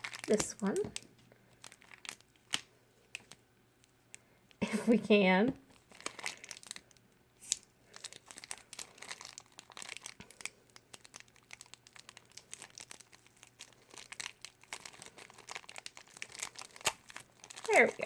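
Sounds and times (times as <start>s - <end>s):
plastic bag crinkling and tearing: 0.0s - 4.0s, 5.7s - 18.0s.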